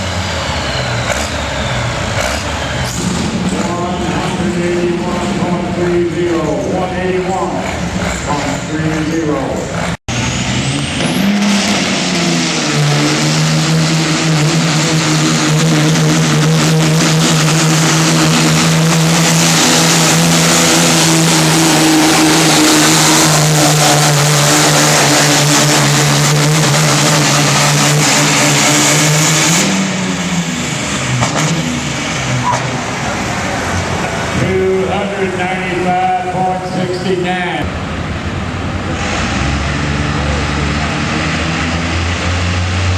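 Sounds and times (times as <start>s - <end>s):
diesel truck engine revving: 0.0s - 42.9s.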